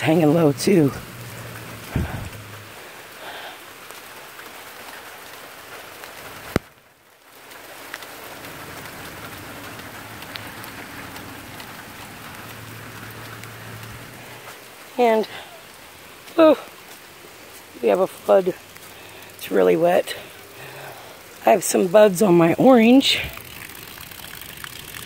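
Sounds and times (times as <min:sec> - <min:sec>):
rain on garden plants: 0:00.0 - 0:25.0.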